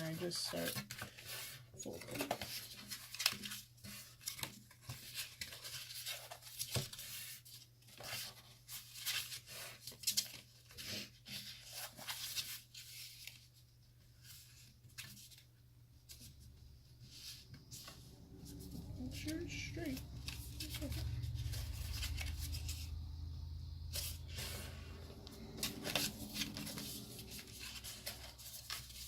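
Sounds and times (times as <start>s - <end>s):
cardstock folding rustles: 0.0s - 29.0s.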